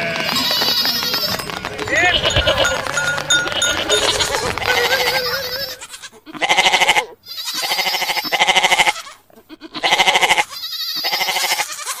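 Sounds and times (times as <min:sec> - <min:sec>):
sheep bleating: 0:00.0 - 0:12.0.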